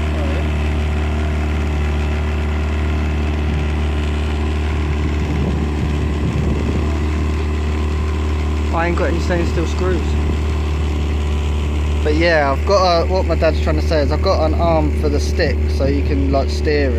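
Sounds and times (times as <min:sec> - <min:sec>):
outboard motor droning: 0:00.0 - 0:16.9.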